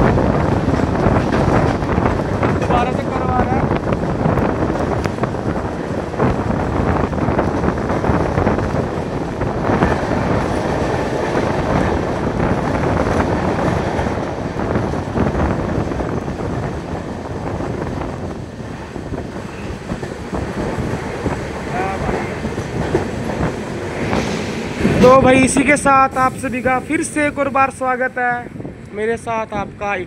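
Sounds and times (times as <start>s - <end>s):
rail joint clacks: 0.0s - 27.6s
train wheels rumbling on rails: 0.0s - 29.8s.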